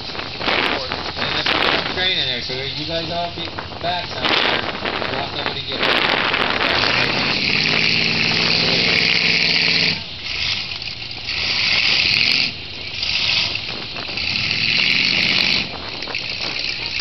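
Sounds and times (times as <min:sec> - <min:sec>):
heavy vehicle engine revving: 0:00.0 - 0:17.0.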